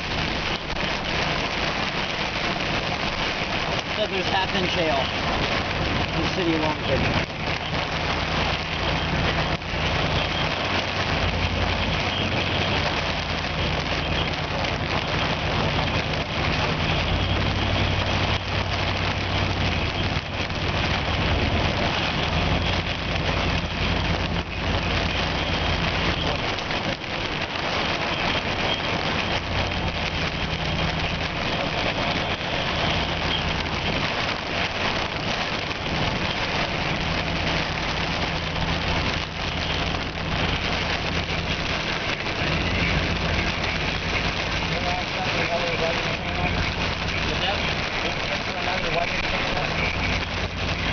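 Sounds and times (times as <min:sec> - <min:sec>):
car engine: 0:00.0 - 0:50.9
heavy rain hitting a car: 0:00.0 - 0:50.9
strong wind rumble: 0:00.0 - 0:50.9.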